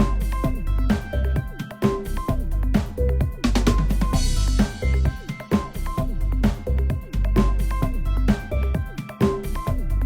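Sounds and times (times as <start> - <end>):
deep bass: 0.0 - 1.5, 2.1 - 5.2, 5.8 - 8.8, 9.4 - 10.0
electronic drum beat: 0.0 - 10.0.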